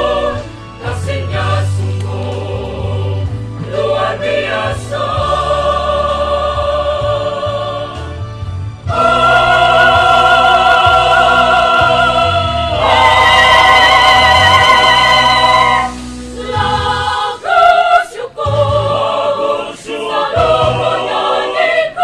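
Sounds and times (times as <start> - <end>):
choir singing held chords: 0.0 - 22.0.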